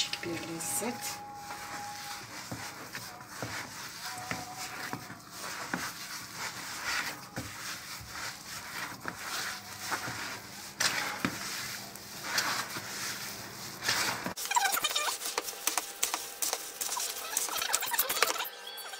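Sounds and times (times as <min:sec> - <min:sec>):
hands kneading dough: 0:00.0 - 0:18.5.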